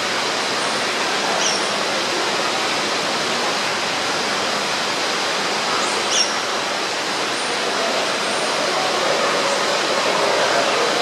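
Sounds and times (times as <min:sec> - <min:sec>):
rush of falling water: 0:00.0 - 0:11.0.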